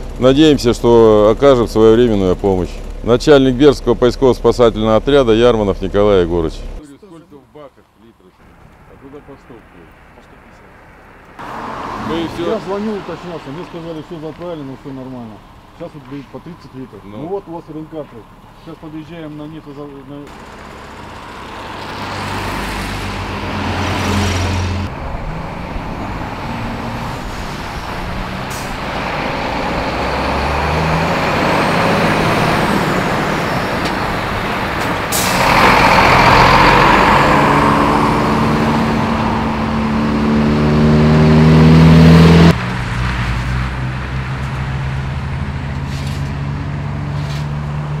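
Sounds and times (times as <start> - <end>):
truck diesel engine driving by: 0.0 - 6.8, 11.0 - 48.0
passing traffic: 0.0 - 48.0.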